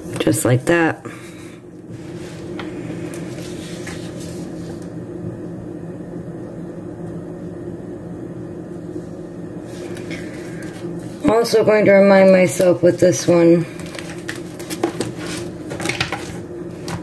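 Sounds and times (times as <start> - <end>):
electrical appliance humming: 0.0 - 17.0.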